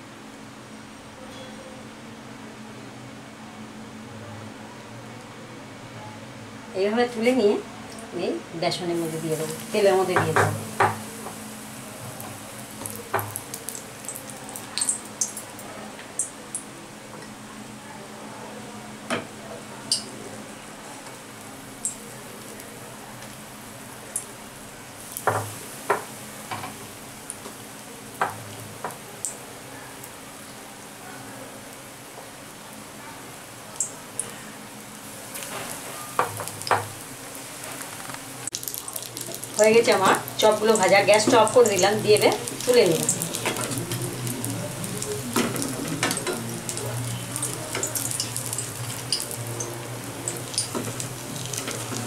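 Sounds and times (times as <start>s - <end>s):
food deep-frying in oil: 7.1s - 52.0s.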